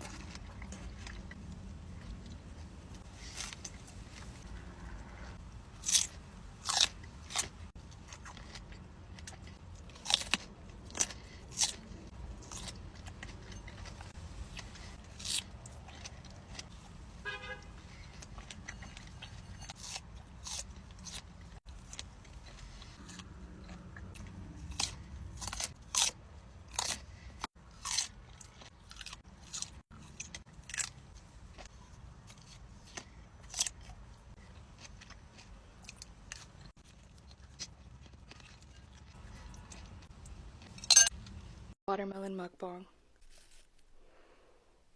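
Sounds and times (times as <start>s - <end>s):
crunchy fruit bites and chewing: 0.0s - 41.8s.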